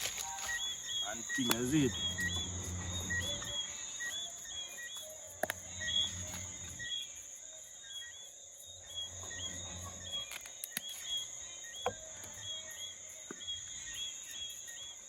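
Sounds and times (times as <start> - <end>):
crickets buzzing: 0.0 - 15.0.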